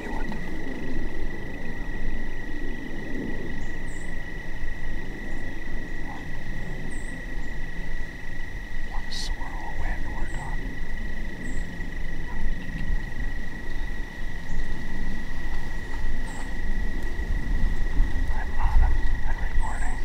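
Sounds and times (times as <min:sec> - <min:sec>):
crickets trilling: 0:00.0 - 0:20.0
low microphone rumble: 0:00.0 - 0:20.0.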